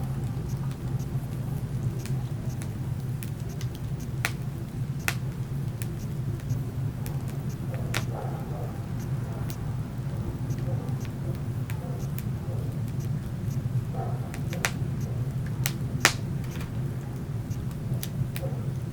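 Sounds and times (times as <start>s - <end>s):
fire low rumble: 0.0s - 18.9s
wood fire crackling and popping: 0.0s - 18.9s.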